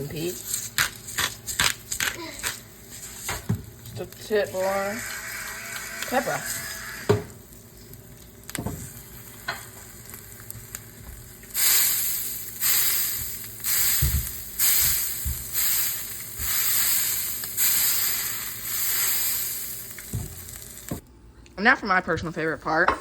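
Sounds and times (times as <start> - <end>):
egg sizzling in a pan: 0.0 - 21.0.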